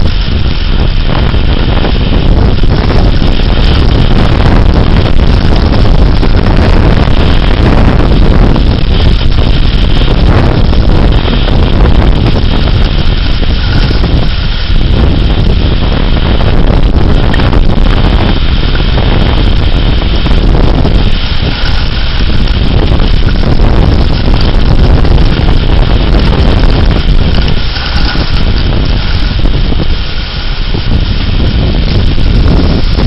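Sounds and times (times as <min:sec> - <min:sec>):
strong wind roaring on microphone: 0:00.0 - 0:33.0.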